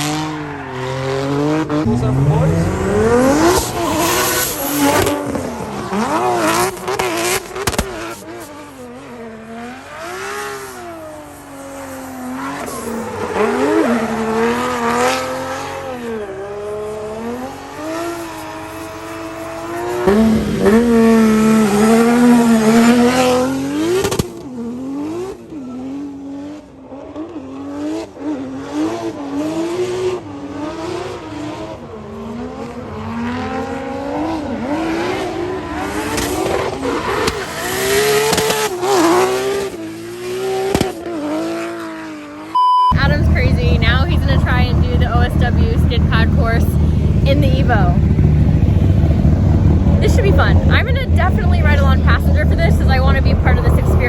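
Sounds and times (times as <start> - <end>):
tires squealing: 0.0 - 30.1, 32.4 - 54.0
car engine revving: 0.0 - 54.0.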